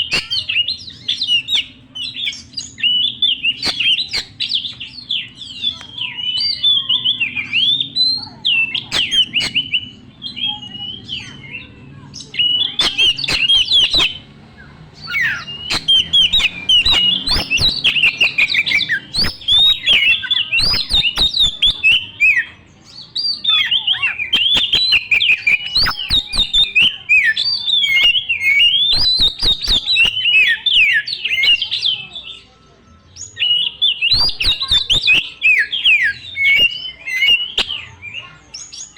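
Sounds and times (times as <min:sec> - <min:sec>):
bird singing whistled phrases: 0:00.0 - 0:32.5, 0:33.1 - 0:38.9.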